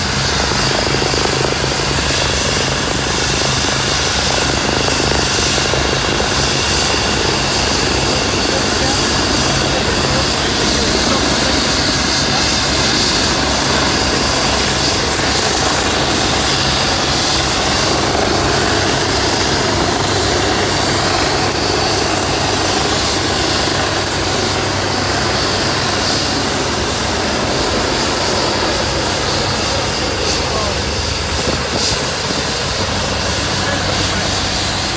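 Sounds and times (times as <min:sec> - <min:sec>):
helicopter rotor and turbine noise: 0:00.0 - 0:34.9.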